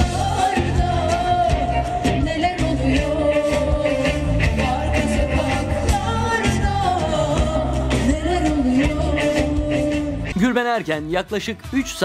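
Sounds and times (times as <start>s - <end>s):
woman singing: 0.0s - 10.5s
bass: 0.0s - 12.0s.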